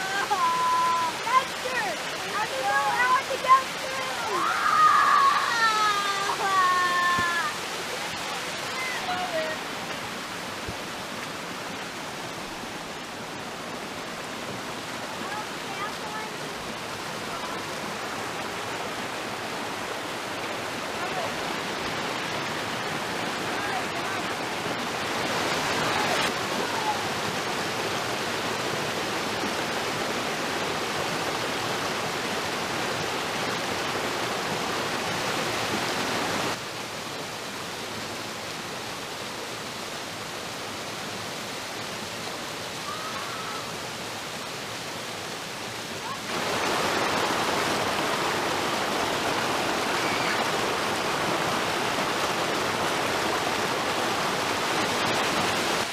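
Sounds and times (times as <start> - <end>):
water rushing over rocky waterfall: 0.0 - 55.9.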